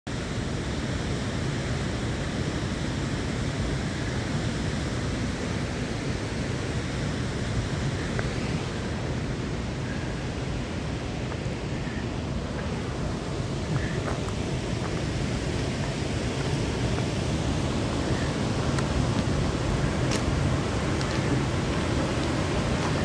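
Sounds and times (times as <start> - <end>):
waterfall and stream rushing: 0.1 - 23.0.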